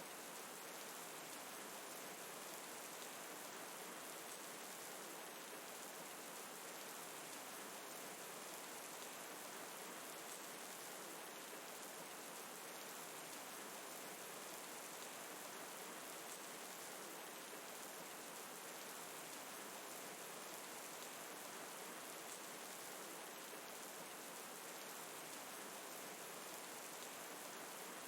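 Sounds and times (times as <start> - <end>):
gentle rain falling: 0.0 - 28.0.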